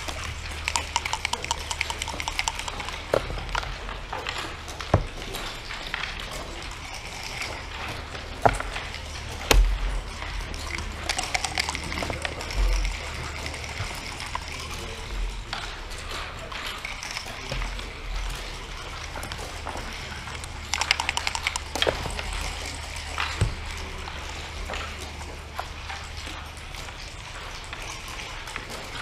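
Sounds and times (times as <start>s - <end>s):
checkers and dice clicking on wood: 0.0s - 29.0s
steady low hum: 0.0s - 29.0s.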